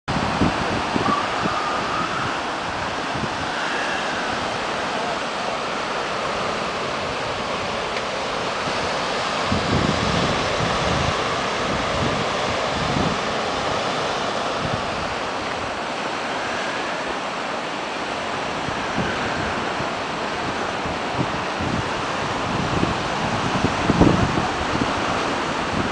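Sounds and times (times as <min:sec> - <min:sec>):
waves breaking on a beach: 0:00.1 - 0:25.9
wind buffeting microphone: 0:00.1 - 0:25.9.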